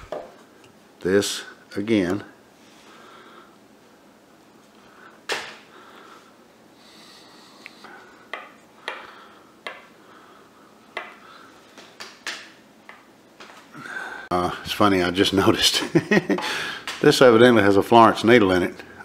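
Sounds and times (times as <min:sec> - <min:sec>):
faint room noise: 0:00.0 - 0:19.0.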